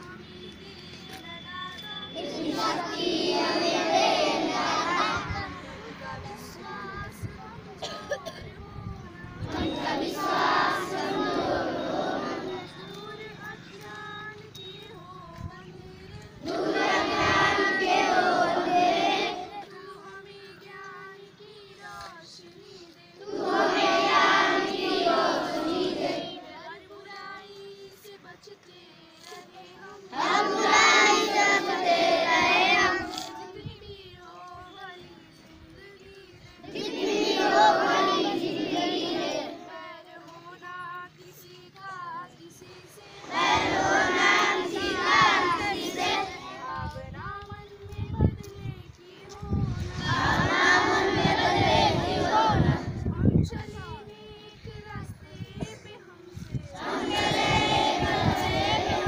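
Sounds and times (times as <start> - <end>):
children singing in unison: 1.8 - 14.6, 15.7 - 48.3, 49.0 - 59.0.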